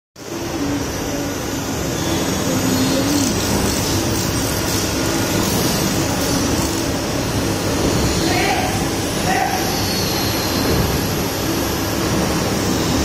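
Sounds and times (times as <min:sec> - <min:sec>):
factory machinery din: 0:00.2 - 0:13.0.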